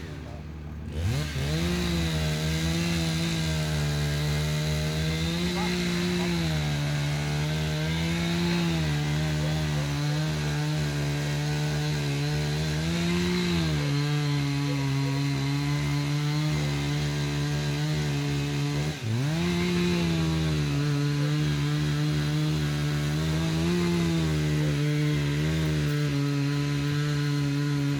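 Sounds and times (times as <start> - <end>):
chainsaw cutting wood: 0.0 - 27.9.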